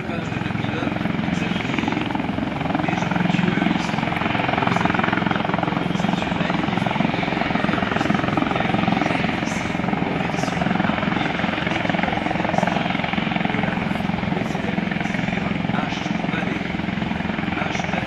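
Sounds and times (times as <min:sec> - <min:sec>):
helicopter engines and rotors: 0:00.0 - 0:18.0.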